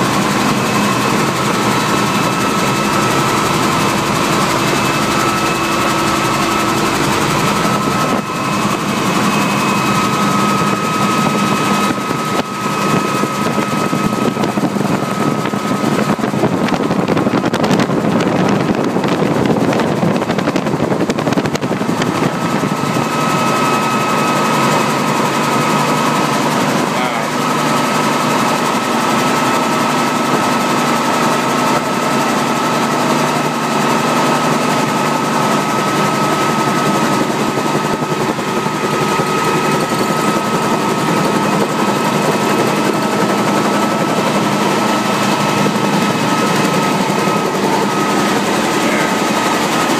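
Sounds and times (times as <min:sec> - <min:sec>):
fairground ride rushing noise: 0:00.0 - 0:49.9
high steady whine: 0:00.0 - 0:49.9.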